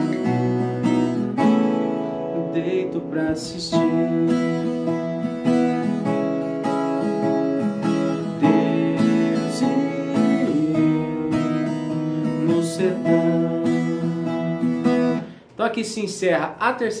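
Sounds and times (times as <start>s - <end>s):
folk guitar strummed: 0.0s - 15.4s.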